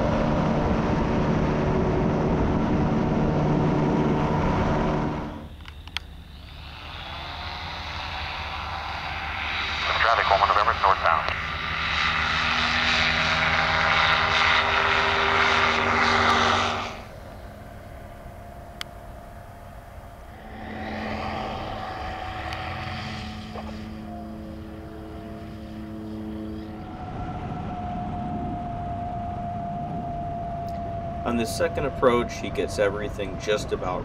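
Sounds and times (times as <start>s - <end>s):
ultralight engine and propeller droning: 0.0s - 34.0s.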